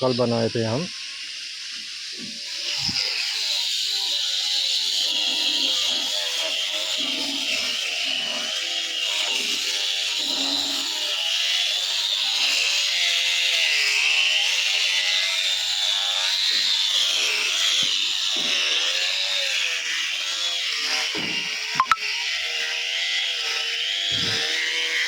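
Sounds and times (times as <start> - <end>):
electric grinder sanding wood: 0.0 - 25.0.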